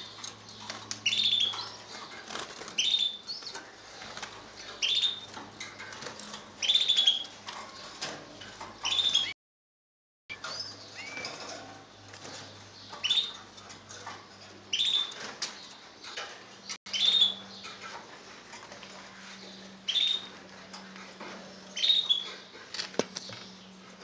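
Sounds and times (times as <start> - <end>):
birds chirping: 0.0 - 9.4, 10.3 - 24.0.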